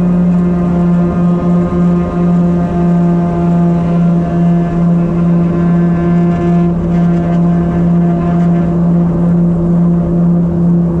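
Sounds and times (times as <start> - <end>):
turboprop engine and propeller hum: 0.0 - 11.0.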